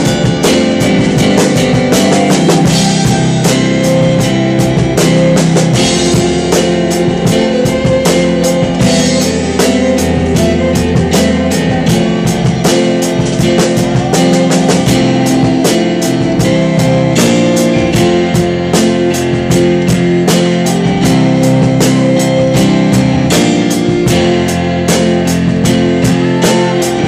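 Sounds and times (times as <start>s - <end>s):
drum kit beat: 0.0s - 27.0s
keyboard notes: 0.0s - 27.0s
violin notes: 0.0s - 27.0s.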